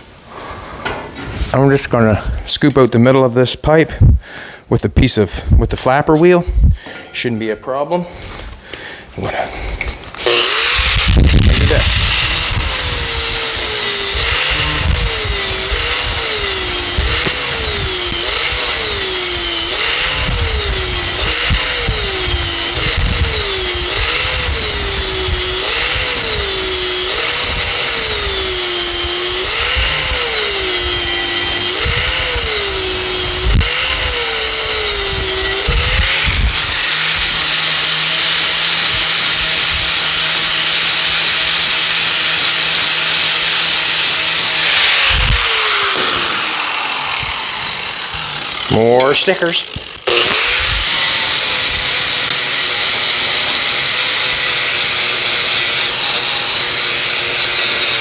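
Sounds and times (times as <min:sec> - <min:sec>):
angle grinder grinding metal: 0:08.2 - 0:58.0.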